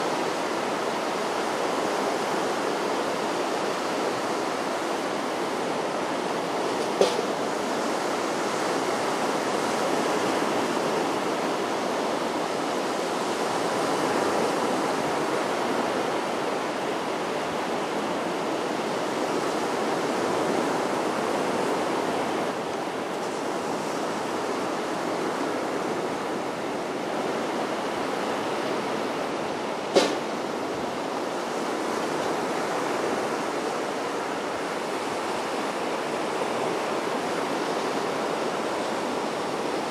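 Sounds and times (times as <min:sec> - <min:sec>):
sea surf on beach: 0:00.0 - 0:39.9.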